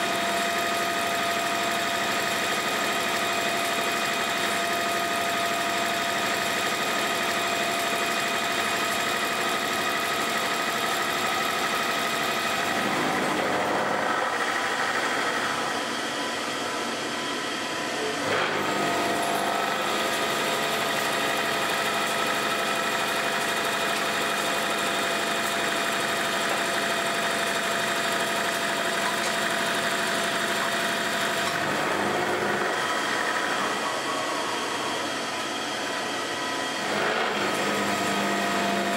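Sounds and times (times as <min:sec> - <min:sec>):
milling machine cutting metal: 0:00.0 - 0:38.9.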